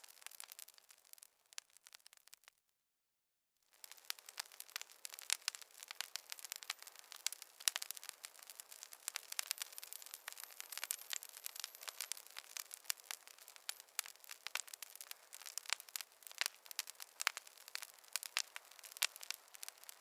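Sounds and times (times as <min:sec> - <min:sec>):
wood fire crackling: 0:00.0 - 0:02.6, 0:03.7 - 0:20.0.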